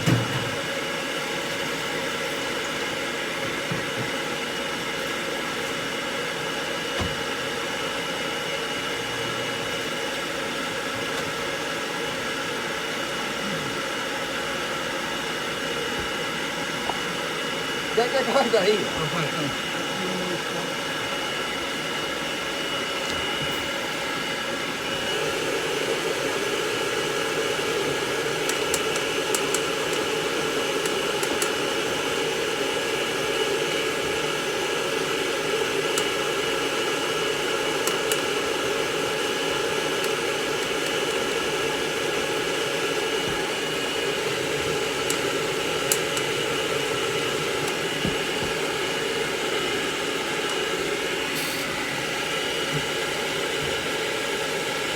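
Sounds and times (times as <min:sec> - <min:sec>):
hair dryer blowing: 0:00.0 - 0:54.9.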